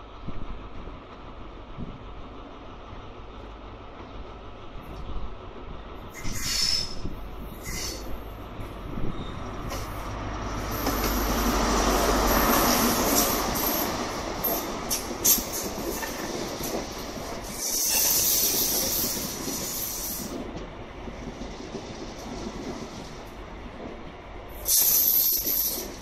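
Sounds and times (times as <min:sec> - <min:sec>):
train engine and wheels rumbling: 0:00.0 - 0:26.0.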